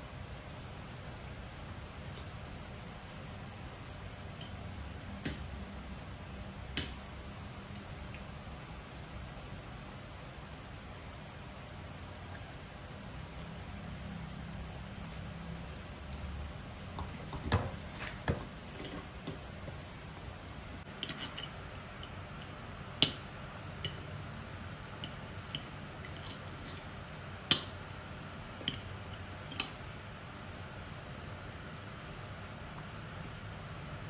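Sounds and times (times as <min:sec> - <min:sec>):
steady low hiss: 0:00.0 - 0:34.0.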